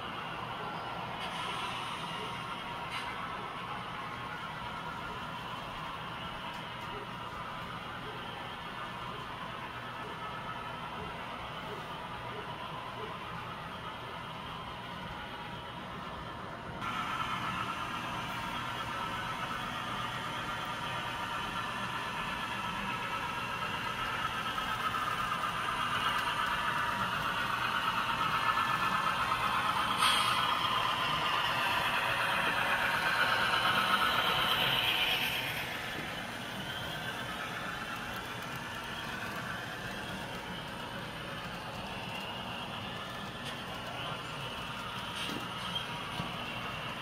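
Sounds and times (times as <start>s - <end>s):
model train running with hum: 0.0s - 47.0s.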